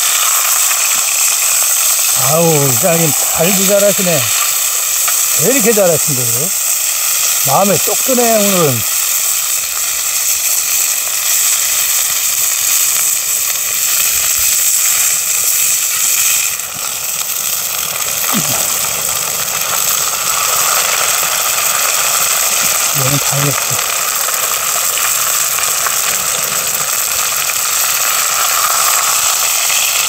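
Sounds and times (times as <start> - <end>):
fish deep-frying in hot oil: 0.0 - 30.0.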